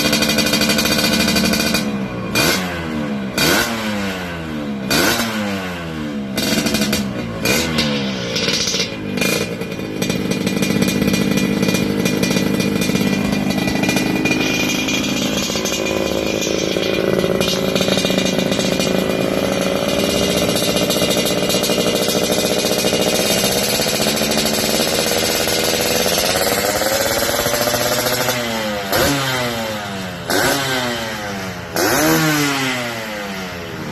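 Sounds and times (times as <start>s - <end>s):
two-stroke motorcycle revving: 0.0s - 33.9s.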